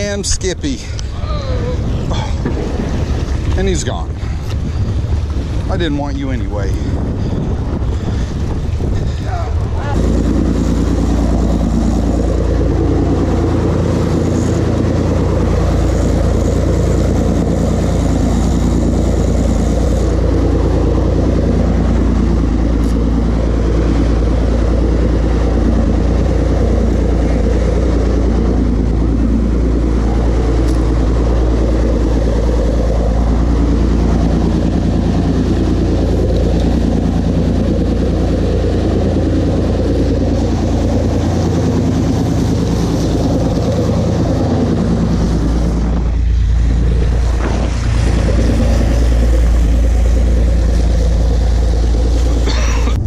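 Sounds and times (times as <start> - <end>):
boat engine droning: 0.0 - 53.0
wind and water hiss: 0.0 - 53.0.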